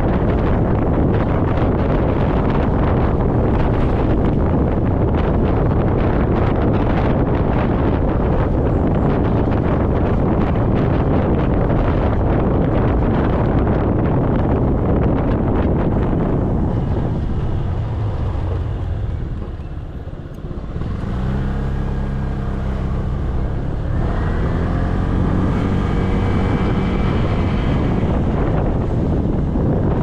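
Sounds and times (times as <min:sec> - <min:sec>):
motorcycle engine running: 0:00.0 - 0:30.0
wind on microphone: 0:00.0 - 0:30.0.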